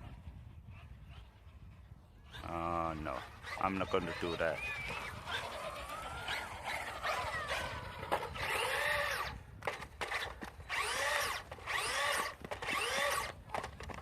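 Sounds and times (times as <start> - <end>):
electric motor whining: 2.3 - 14.0.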